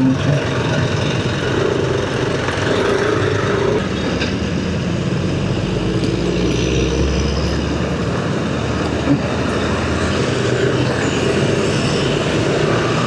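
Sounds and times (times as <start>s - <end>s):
engine and tyre noise: 0.0s - 13.0s.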